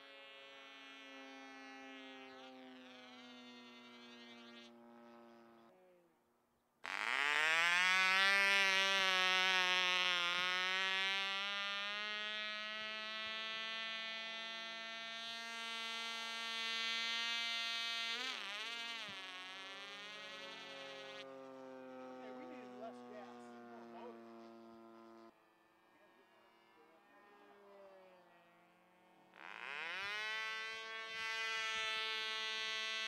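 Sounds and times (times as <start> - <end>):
model engine buzzing: 0.0 - 6.2, 6.8 - 33.0.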